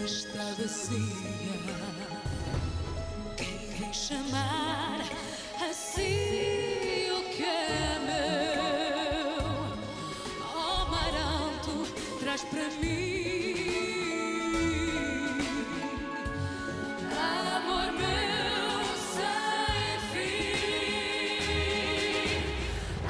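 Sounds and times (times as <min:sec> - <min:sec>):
instrumental accompaniment: 0:00.0 - 0:23.0
woman singing with vibrato: 0:00.0 - 0:23.0.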